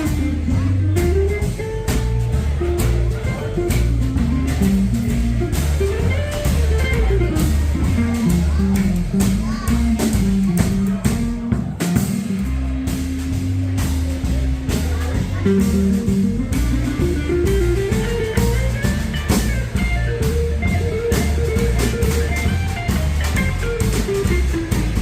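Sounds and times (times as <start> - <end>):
drum kit steady beat: 0.0 - 25.0
guitar melody: 0.0 - 25.0
pulsing bass line: 0.0 - 25.0.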